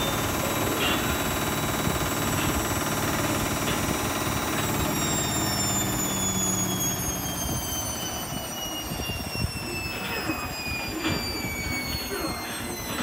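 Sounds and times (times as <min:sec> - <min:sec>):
washing machine motor whine: 0:00.0 - 0:13.0.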